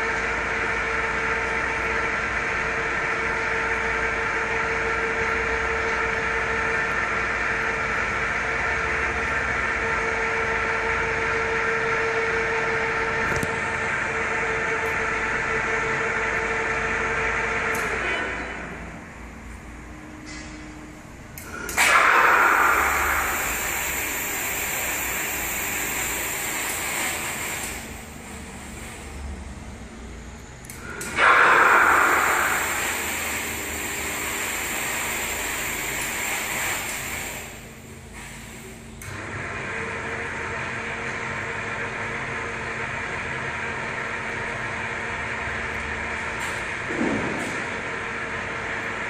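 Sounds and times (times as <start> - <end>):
mechanical whirr with hum: 0.0 - 49.0
steady background noise: 0.0 - 49.0.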